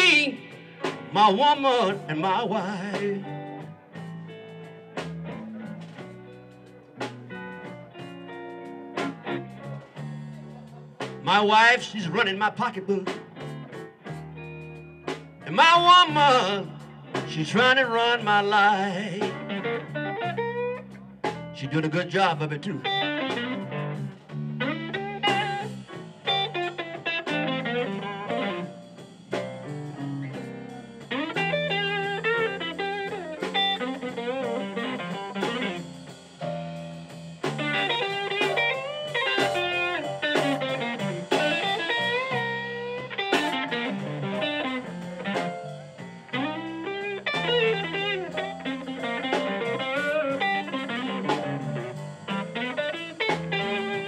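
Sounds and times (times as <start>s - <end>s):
electric guitar blues lead: 0.0s - 54.0s
low backing band: 0.0s - 54.0s.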